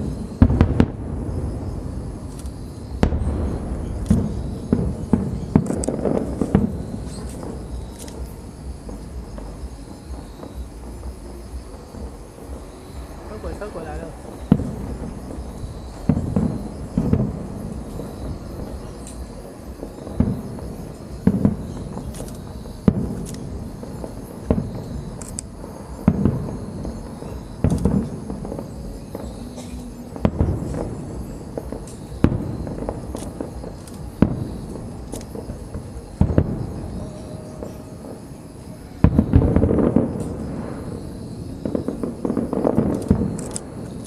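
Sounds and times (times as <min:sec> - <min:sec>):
low rumbling echo: 0:00.0 - 0:38.1
fireworks bursting: 0:00.0 - 0:44.0.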